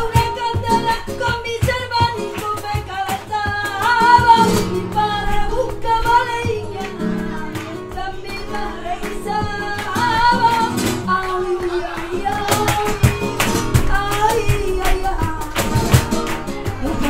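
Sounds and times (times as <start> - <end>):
cajon strokes: 0.0 - 17.0
flamenco guitar: 0.0 - 17.0
woman singing flamenco: 0.0 - 17.0.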